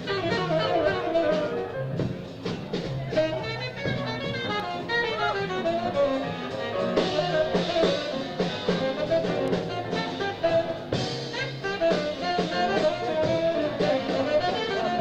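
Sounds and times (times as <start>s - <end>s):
busy drumming: 0.0s - 15.0s
jazz quartet playing: 0.0s - 15.0s
saxophone melody: 0.0s - 15.0s
walking bass: 0.0s - 15.0s.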